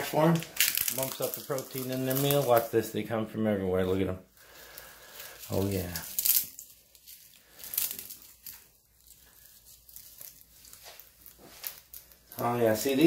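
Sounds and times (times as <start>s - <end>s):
potato chip crackling: 0.0s - 2.9s, 4.4s - 13.0s.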